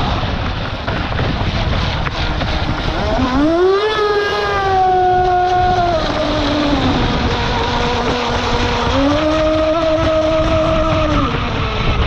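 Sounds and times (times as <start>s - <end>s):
water rushing and spraying: 0.0s - 12.0s
model boat motor whining: 1.5s - 12.0s.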